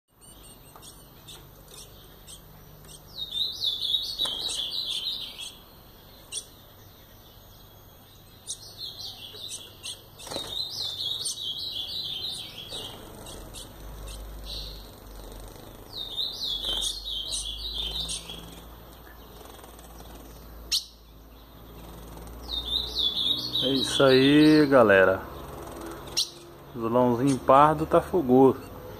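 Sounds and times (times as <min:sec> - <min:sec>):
bird singing warbled song: 0:00.1 - 0:28.9.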